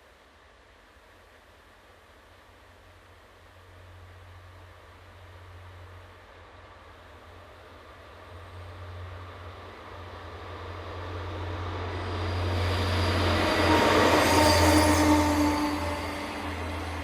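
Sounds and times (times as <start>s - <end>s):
freight train approaching: 3.2s - 17.0s.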